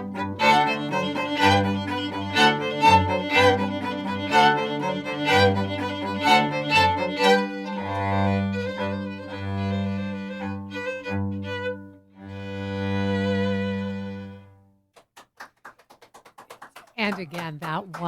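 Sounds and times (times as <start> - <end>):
orchestra bowed strings: 0.0 - 14.7.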